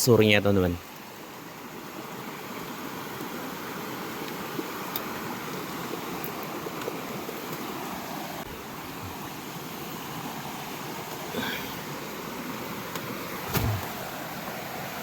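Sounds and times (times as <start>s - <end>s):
river water rushing: 0.8s - 15.0s.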